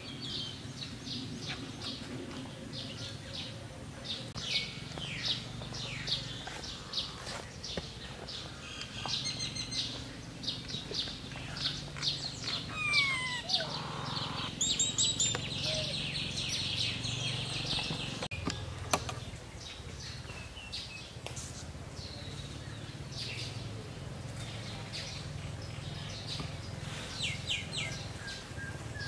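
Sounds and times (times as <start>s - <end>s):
birds chirping: 0.0s - 21.2s, 22.0s - 29.0s.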